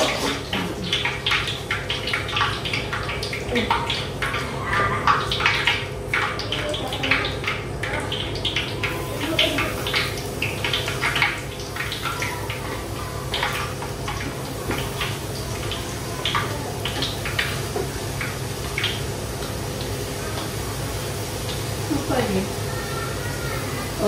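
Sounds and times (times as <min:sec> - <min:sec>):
batter sizzling in hot oil: 0:00.0 - 0:24.0.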